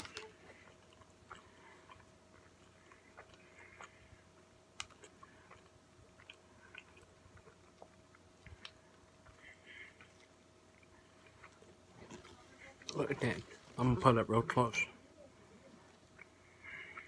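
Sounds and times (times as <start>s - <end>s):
chewing with wet smacks: 0.0s - 13.6s, 15.9s - 17.0s.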